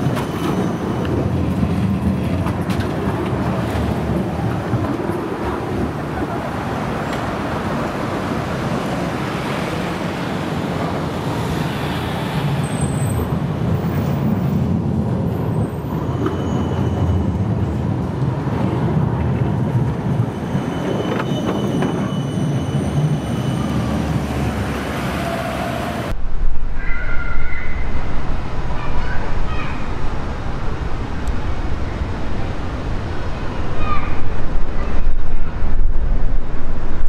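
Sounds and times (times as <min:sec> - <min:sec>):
street traffic: 0:00.0 - 0:37.0
tram rumbling over rails: 0:00.0 - 0:37.0.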